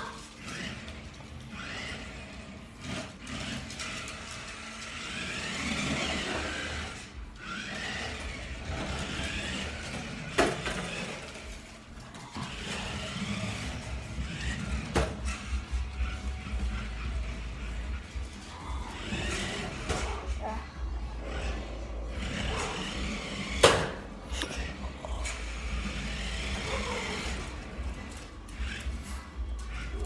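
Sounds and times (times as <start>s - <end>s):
toy car electric motor whirring: 0.0s - 30.0s.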